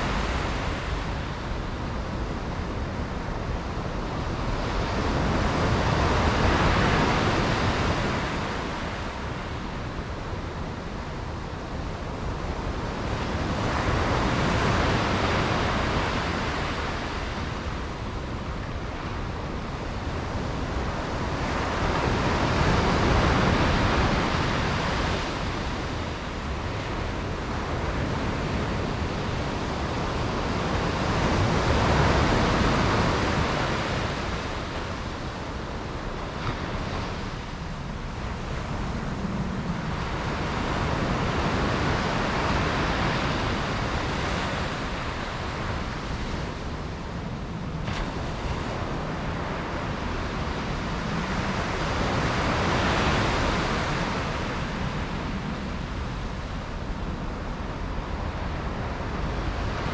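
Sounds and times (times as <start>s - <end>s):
low rumble of surf: 0.0s - 59.9s
sea waves breaking: 0.0s - 59.9s.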